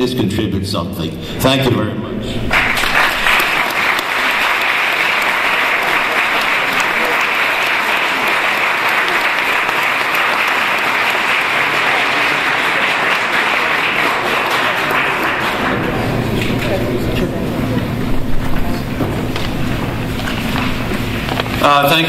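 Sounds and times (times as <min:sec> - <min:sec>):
audience applauding: 0:02.4 - 0:22.0.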